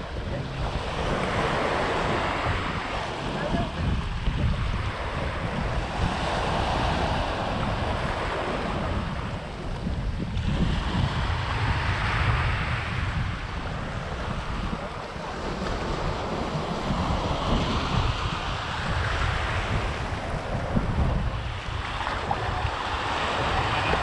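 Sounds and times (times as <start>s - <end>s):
small waves washing onto beach: 0.0s - 24.0s
wind rumbling on microphone: 0.0s - 24.0s.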